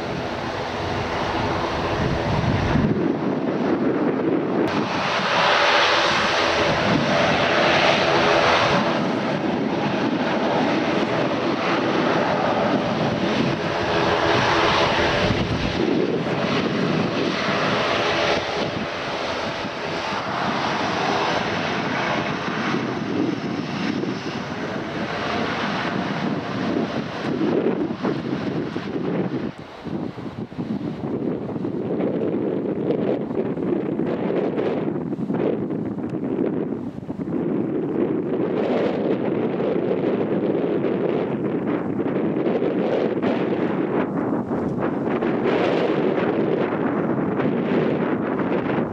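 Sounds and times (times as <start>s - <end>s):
airliner engines running: 0.0s - 48.9s
wind buffeting microphone: 0.0s - 48.9s.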